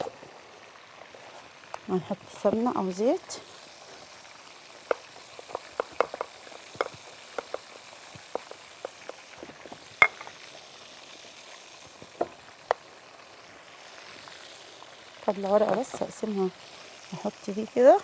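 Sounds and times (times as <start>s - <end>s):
oil popping and crackling: 0.0s - 18.0s
oil sizzling in frying pan: 0.0s - 18.0s.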